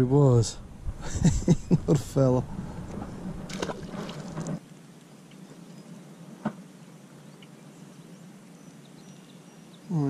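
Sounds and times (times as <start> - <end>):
low background noise: 0.0 - 10.0
distant birds chirping: 0.6 - 10.0.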